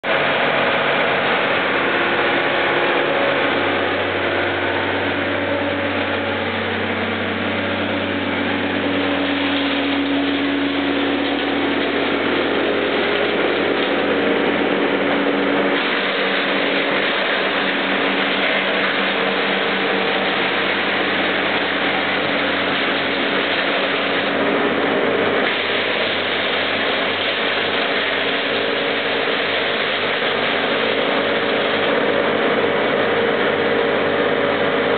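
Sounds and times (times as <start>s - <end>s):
tractor engine running: 0.0s - 34.9s
wood chipper shredding branches: 0.0s - 34.9s.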